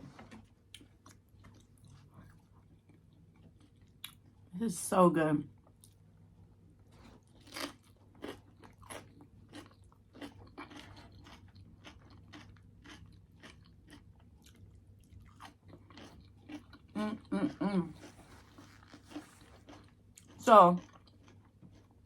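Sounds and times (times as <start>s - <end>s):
low steady hum: 0.0s - 22.0s
person chewing food: 0.3s - 4.5s, 6.8s - 22.0s.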